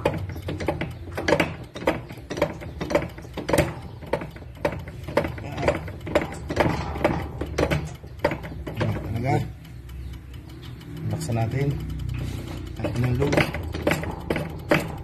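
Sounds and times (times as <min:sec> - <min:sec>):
hand pump lever strokes: 0:00.0 - 0:10.4, 0:11.0 - 0:15.0
steady low hum: 0:00.0 - 0:15.0.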